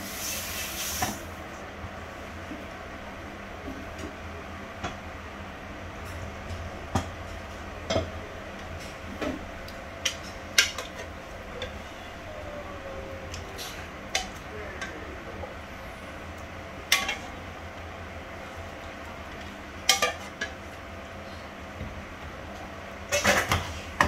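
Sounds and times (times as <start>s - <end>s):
steady low hum: 1.1s - 24.0s.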